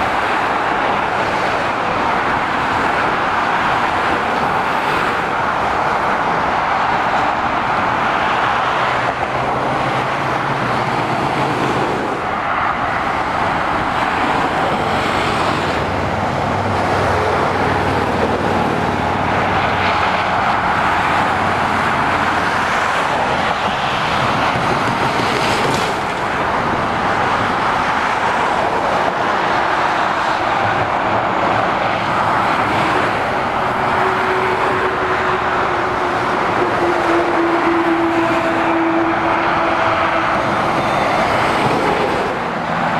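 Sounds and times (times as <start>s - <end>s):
lorry diesel engines: 0.0s - 42.9s.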